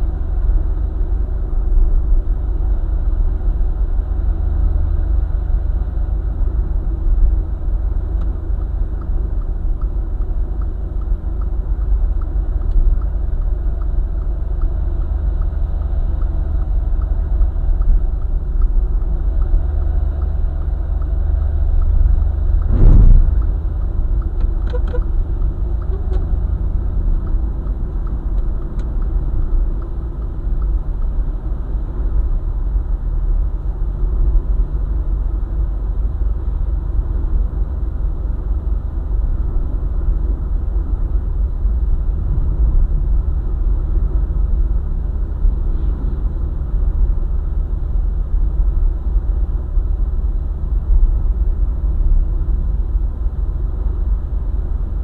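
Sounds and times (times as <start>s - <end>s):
engine cruising: 0.0s - 55.0s
vehicle road and tyre noise: 0.0s - 55.0s.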